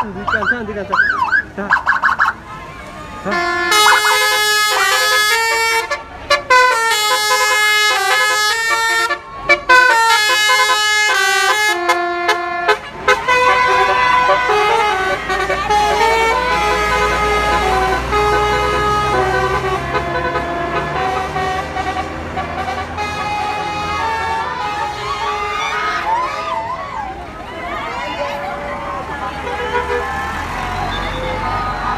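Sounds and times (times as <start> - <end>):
bus engine hum: 0.0 - 31.9
multi-tone bus horn melody: 0.0 - 31.9.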